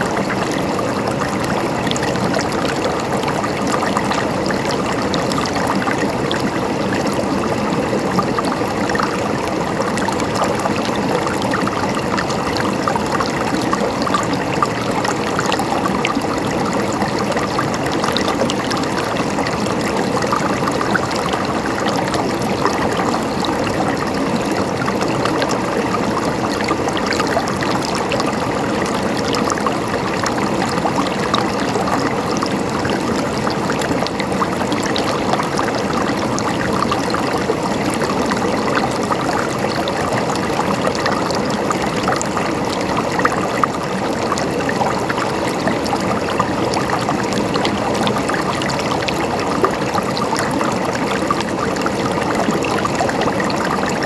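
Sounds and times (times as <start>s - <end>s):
water gurgling: 0.0s - 54.0s.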